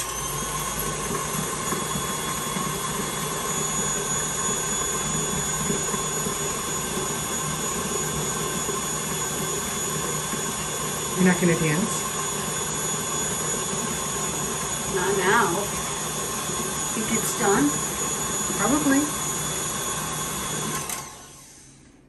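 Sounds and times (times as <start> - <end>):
stand mixer motor whirring: 0.0 - 21.9.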